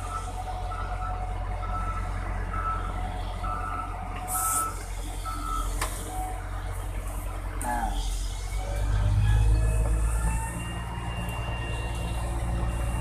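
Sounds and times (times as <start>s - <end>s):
reversing alarm beeping: 0.0s - 6.3s, 8.5s - 13.0s.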